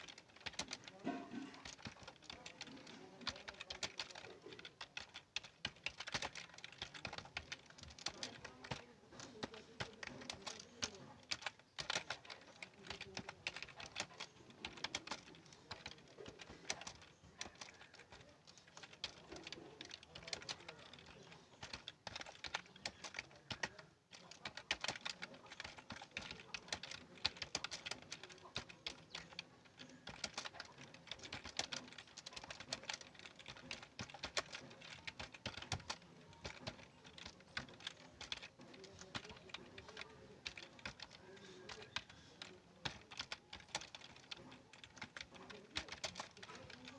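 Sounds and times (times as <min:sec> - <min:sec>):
fast typing on keyboard: 0:00.0 - 0:46.9.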